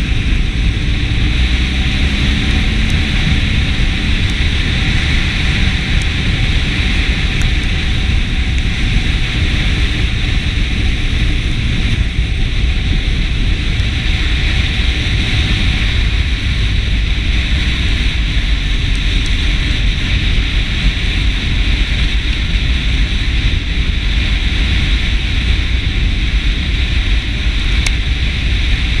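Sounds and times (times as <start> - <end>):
motorcycle engine rumble: 0.0 - 29.0
road noise hiss: 0.0 - 29.0
wind rushing over microphone: 0.0 - 29.0.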